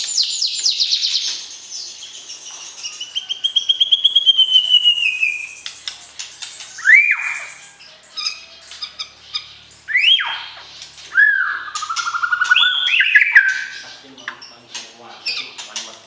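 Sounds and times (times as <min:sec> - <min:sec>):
bird whistling song: 0:00.0 - 0:14.1
bird fast trill: 0:00.0 - 0:15.8.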